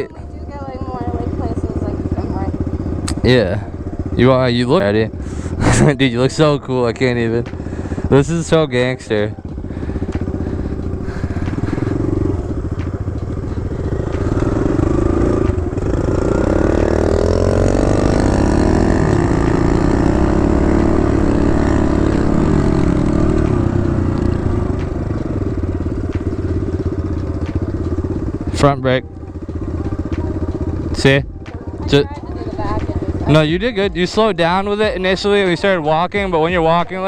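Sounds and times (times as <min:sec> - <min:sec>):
dirt bike engine revving: 0:00.0 - 0:35.6.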